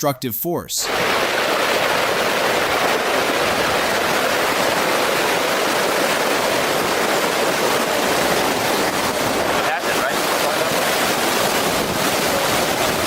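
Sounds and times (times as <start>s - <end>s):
rushing mud and water flow: 0.9s - 13.0s.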